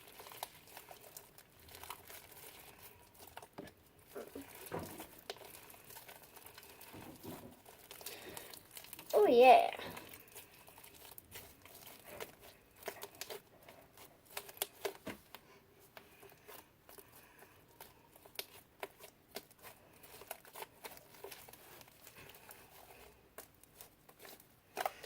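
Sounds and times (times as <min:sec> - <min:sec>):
slime sticky clicks and crackles: 0:00.0 - 0:09.2, 0:10.0 - 0:15.4, 0:16.0 - 0:25.0.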